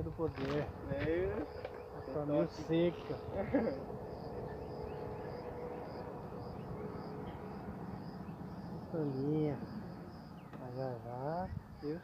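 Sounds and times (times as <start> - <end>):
faint hum: 0.0 - 12.0
insect chirping: 0.2 - 12.0.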